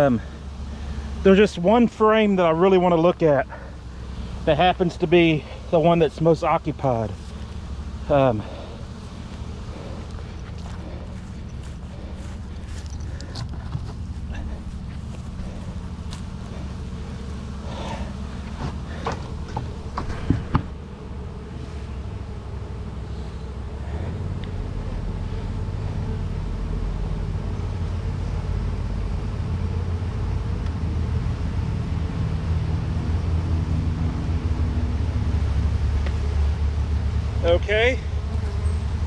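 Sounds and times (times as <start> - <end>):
honeybee colony humming: 0.0 - 39.0.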